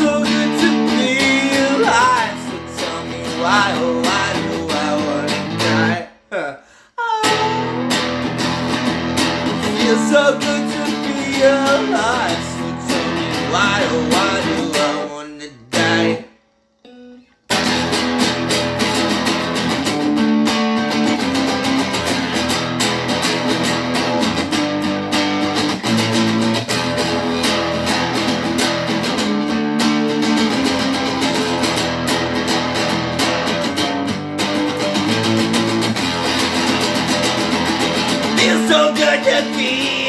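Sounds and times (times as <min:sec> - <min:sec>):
electric guitar strumming chords: 0:00.0 - 0:06.0, 0:07.2 - 0:16.2, 0:17.5 - 0:40.0.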